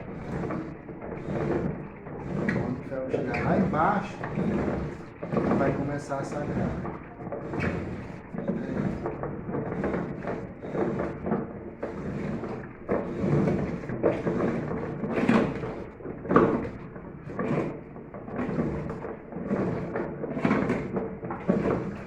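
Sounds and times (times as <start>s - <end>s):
tool creaking and scraping on metal shaft: 0.0s - 22.0s.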